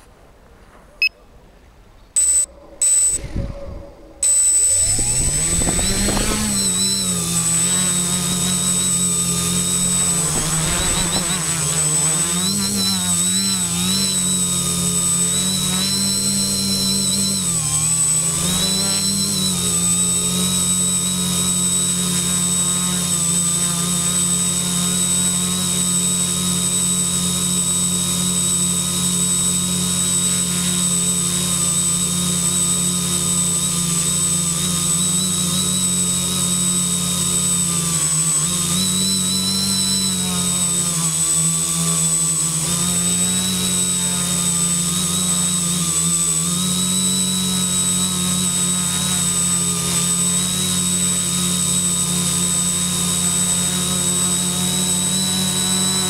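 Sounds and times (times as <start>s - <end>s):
steady high whine: 2.1s - 3.4s, 4.2s - 56.0s
quadcopter motors buzzing: 2.2s - 56.0s.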